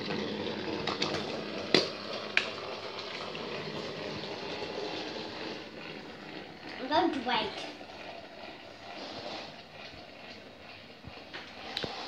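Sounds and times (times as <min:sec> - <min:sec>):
toy train motors whirring: 0:00.0 - 0:12.0.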